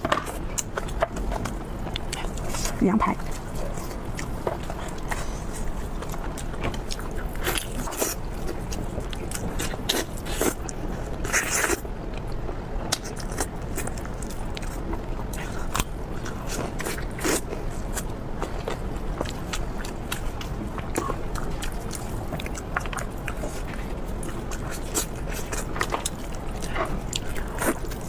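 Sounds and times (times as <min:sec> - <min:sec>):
chewing crispy food: 0:00.0 - 0:28.0
steady low hum: 0:00.0 - 0:28.0.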